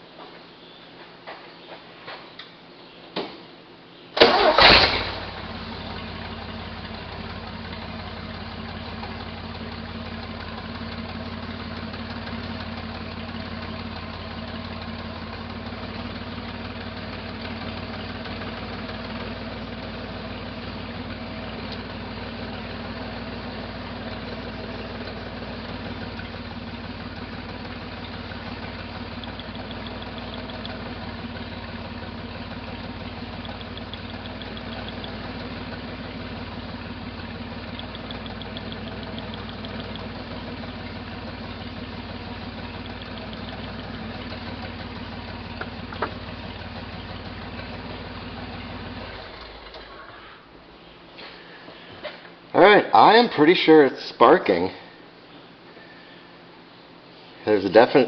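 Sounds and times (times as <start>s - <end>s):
engine starting and idling: 4.2s - 53.8s.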